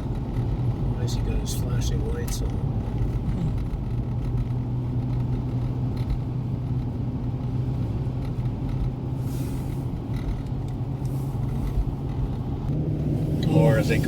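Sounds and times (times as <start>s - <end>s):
engine hum inside moving car: 0.0s - 14.0s.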